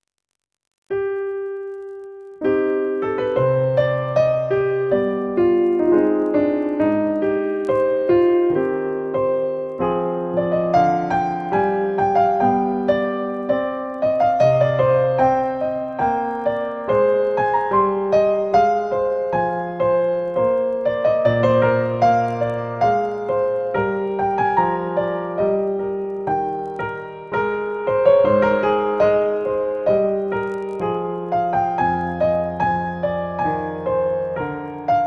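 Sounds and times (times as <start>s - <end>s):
piano music: 0.9s - 35.0s.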